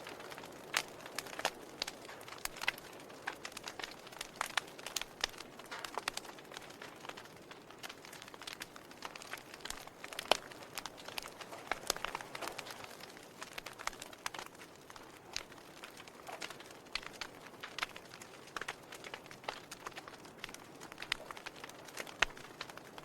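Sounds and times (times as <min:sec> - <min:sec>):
faint hiss of flame: 0:00.0 - 0:23.0
wood fire crackling: 0:00.0 - 0:23.0.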